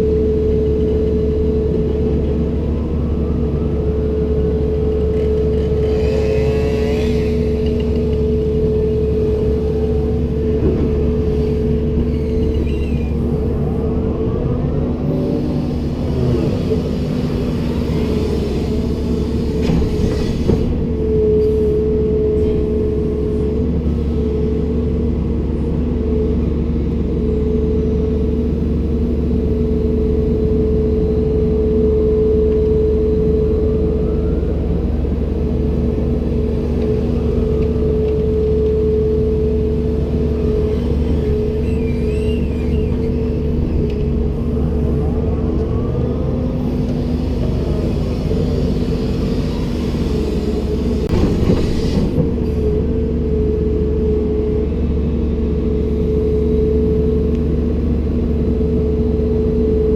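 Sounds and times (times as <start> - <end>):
excavator diesel engine running: 0.0 - 59.9
steady mechanical whine: 0.0 - 59.9.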